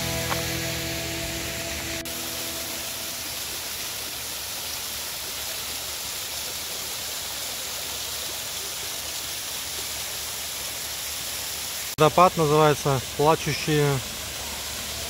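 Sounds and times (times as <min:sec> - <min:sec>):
waterfalls rushing: 0:00.0 - 0:15.0.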